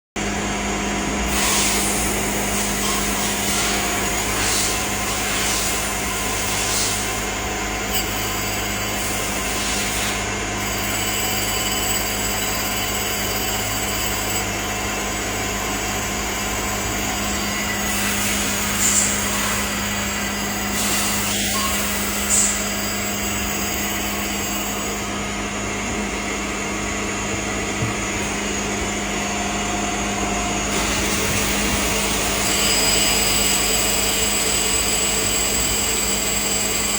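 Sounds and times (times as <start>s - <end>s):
cnc machine hum: 0.2s - 36.9s.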